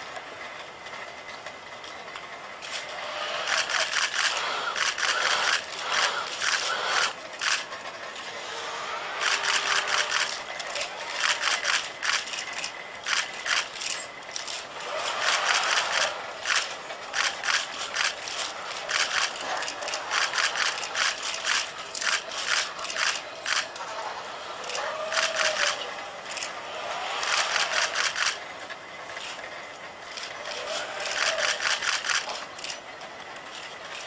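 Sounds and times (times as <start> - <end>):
robot motors clicking and rattling: 0.9 - 34.0.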